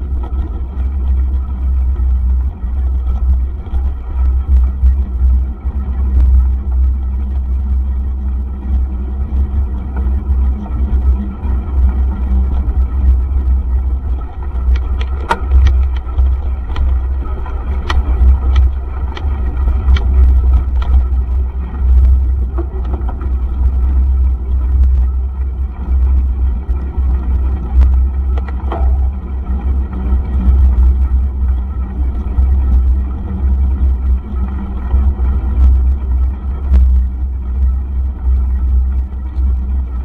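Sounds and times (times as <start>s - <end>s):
bike clicks and rattles: 0.0s - 40.0s
knobby tyres rumbling on gravel: 0.0s - 40.0s
wind on microphone: 0.0s - 40.0s.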